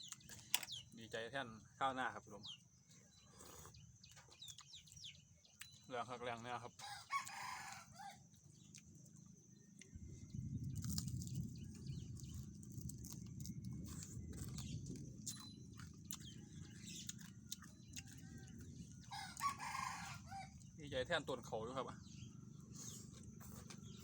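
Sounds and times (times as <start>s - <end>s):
birds chirping faintly: 0.0s - 24.0s
chewing and crunching food: 0.0s - 24.0s.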